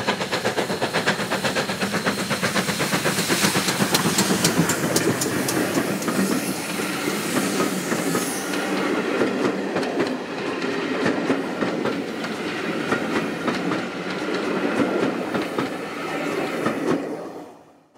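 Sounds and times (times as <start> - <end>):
train wheels clattering over track: 0.0 - 17.1.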